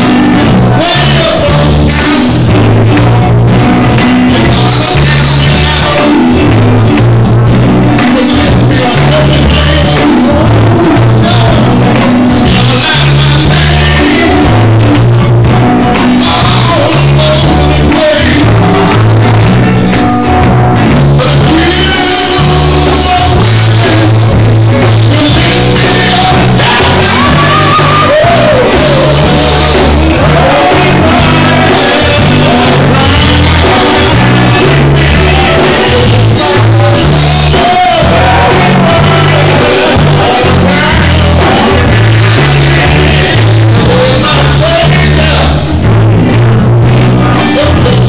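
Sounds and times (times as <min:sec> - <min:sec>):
lead singer singing: 0:00.0 - 0:48.0
live band playing: 0:00.0 - 0:48.0
strong bass line: 0:00.0 - 0:48.0.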